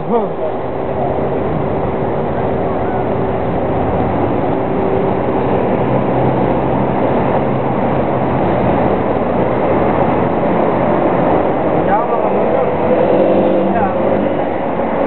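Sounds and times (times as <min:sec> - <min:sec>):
low hum: 0:00.0 - 0:15.0
trolleybus running in traffic: 0:00.0 - 0:15.0.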